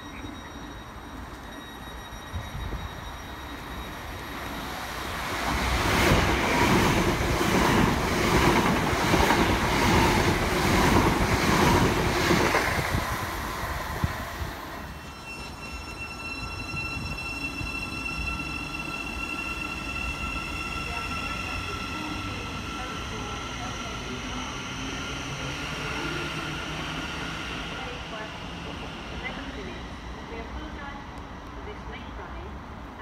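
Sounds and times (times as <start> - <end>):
train rumble and wheel clatter: 0.0 - 33.0.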